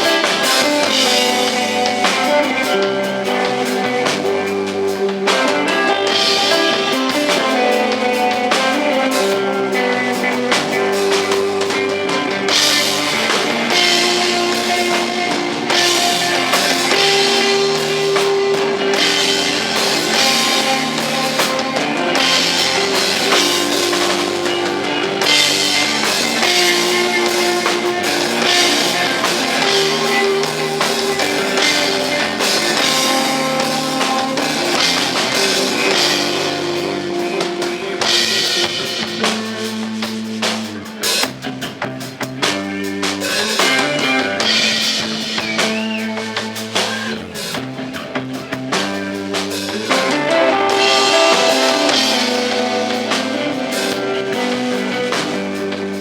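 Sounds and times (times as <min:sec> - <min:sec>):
bass guitar: 0:00.0 - 0:56.0
drum kit with cymbals: 0:00.0 - 0:56.0
electric guitar: 0:00.0 - 0:56.0.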